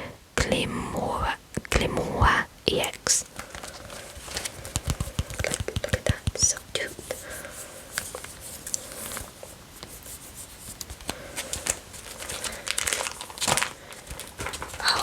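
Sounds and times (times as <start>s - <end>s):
plastic sleeves crinkling: 3.0s - 15.0s.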